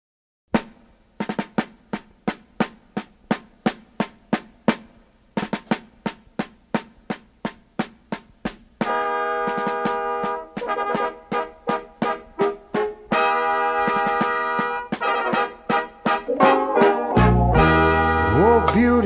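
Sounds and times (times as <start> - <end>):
snare drum march beat: 0.6 - 17.8.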